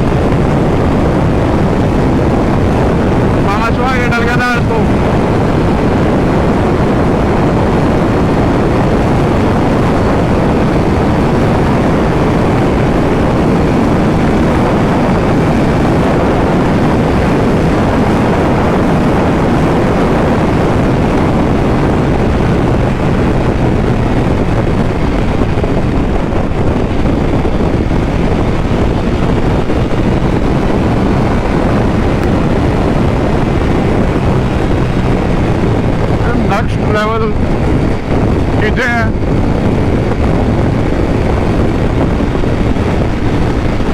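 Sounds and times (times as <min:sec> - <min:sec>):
motorcycle engine drone: 0:00.0 - 0:43.9
wind noise rushing: 0:00.0 - 0:43.9.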